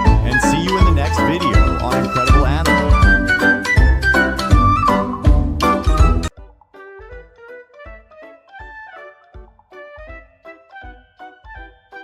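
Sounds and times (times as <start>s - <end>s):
upbeat background music: 0.0s - 12.0s.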